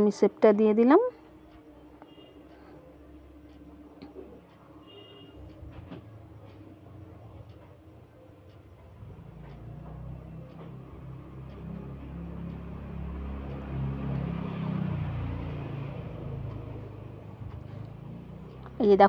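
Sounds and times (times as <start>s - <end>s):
passing vehicle engine rumble: 0.3s - 19.0s.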